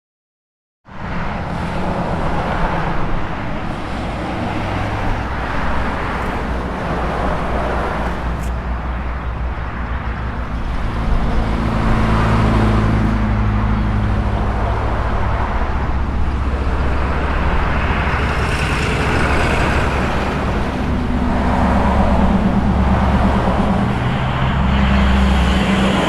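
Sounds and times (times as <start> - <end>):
car engine and road noise: 0.8 - 26.0.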